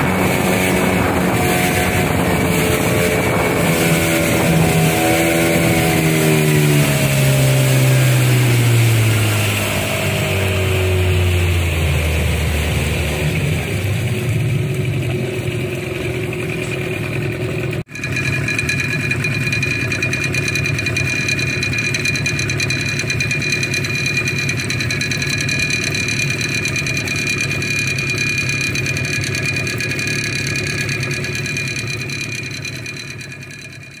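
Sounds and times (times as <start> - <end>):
boat motor droning with whine: 0.0 - 34.0.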